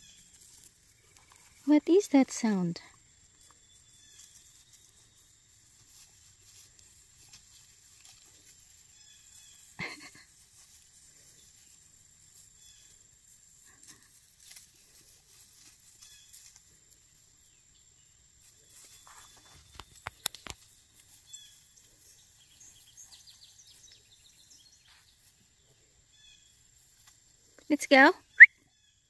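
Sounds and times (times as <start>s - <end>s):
puppies rustling through grass: 0.0s - 1.7s, 2.4s - 17.6s, 18.2s - 27.3s.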